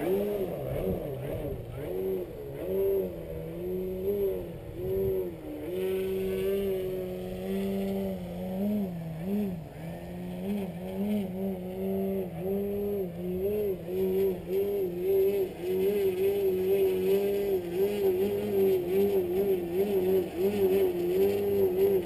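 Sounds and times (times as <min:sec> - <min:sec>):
model plane motor and propeller drone: 0:00.0 - 0:22.0.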